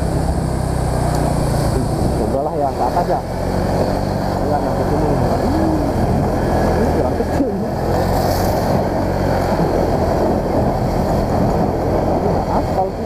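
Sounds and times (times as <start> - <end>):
scooter engine running: 0.0 - 13.0
wind rumble on microphone: 0.0 - 13.0.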